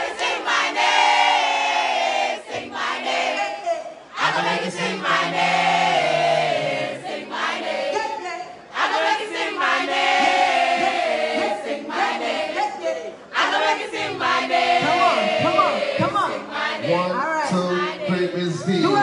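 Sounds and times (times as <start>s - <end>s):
voices singing together: 0.0s - 19.0s.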